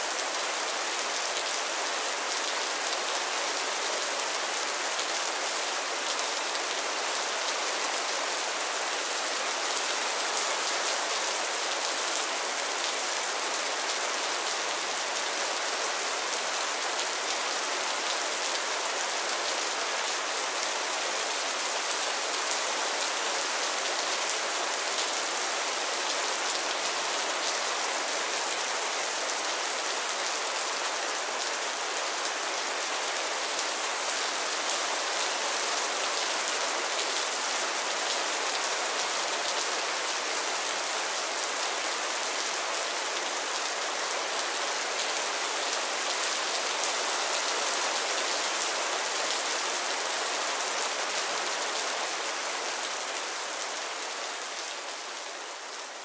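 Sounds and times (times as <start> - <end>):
rain on a roof: 0.0 - 56.0.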